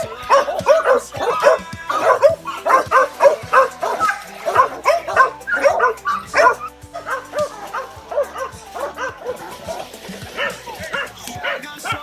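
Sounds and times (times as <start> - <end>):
background music: 0.0 - 12.0
dogs barking rapidly: 0.0 - 12.0.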